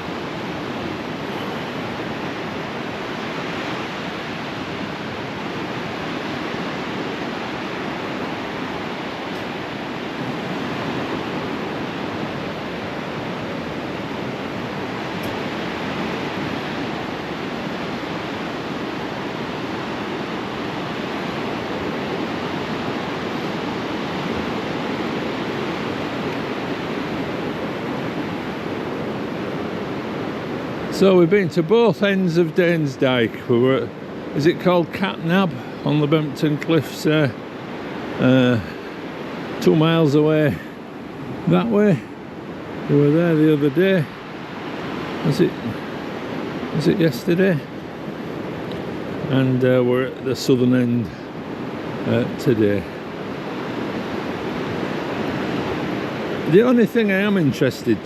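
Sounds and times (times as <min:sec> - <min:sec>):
sea surf on rocky shore: 0:00.0 - 0:58.0.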